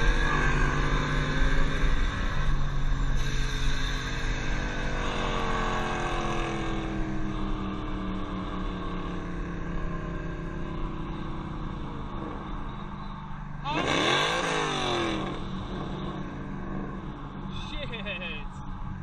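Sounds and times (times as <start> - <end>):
car engine at highway speed: 0.0 - 19.0
road and wind noise: 0.0 - 19.0.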